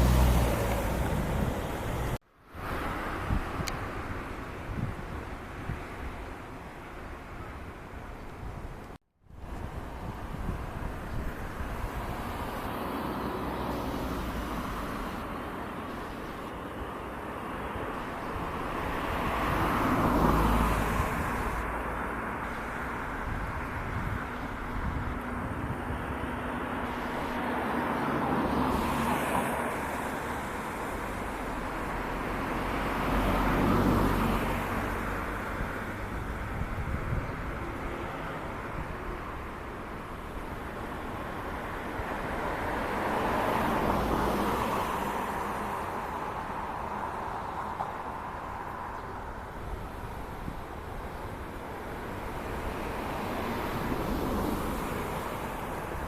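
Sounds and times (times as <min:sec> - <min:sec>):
cars passing: 0:00.0 - 0:08.5, 0:09.3 - 0:56.0
traffic background hum: 0:00.0 - 0:56.0.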